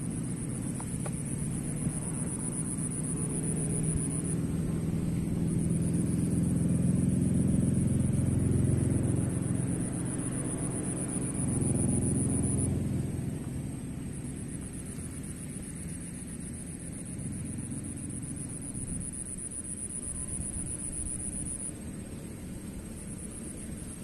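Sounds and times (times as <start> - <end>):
high insect trill: 0.0 - 24.0
low vehicle rumble: 0.0 - 24.0.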